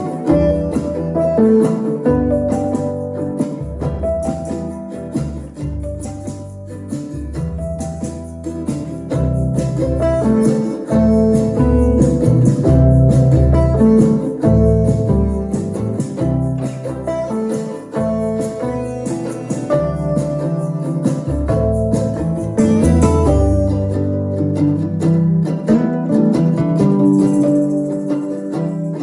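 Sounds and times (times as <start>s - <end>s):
bass line: 0.0s - 28.7s
plucked guitar: 0.0s - 29.0s.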